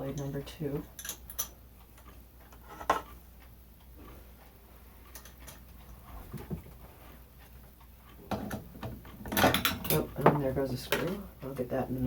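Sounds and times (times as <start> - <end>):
fan parts clicking and knocking: 0.0 - 4.2, 5.0 - 12.0.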